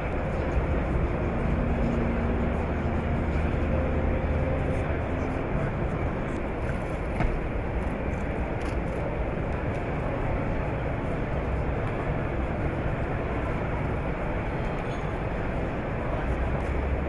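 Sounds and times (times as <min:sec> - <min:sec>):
hall ventilation: 0:00.0 - 0:17.0.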